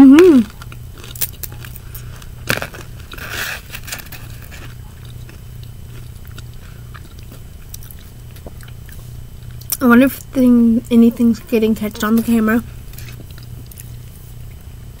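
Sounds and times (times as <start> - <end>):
steady low hum: 0.0 - 15.0
crunching fried chicken: 0.2 - 15.0.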